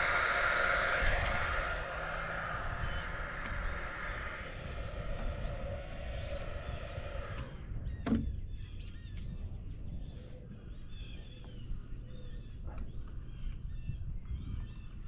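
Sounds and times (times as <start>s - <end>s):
low outdoor rumble: 0.0s - 14.4s
birds chirping: 0.0s - 15.0s.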